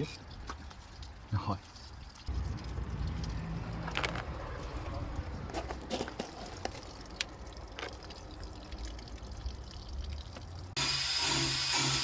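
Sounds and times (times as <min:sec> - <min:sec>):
coolant trickling and dripping: 0:00.0 - 0:12.0.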